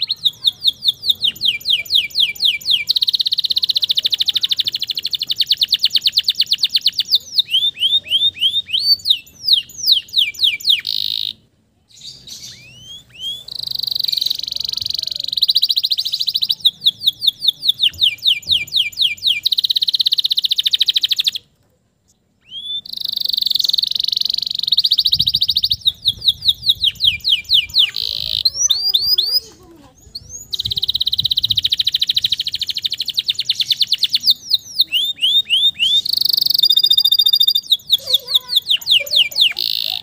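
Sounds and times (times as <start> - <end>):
canary singing chirps and trills: 0.0 - 40.0.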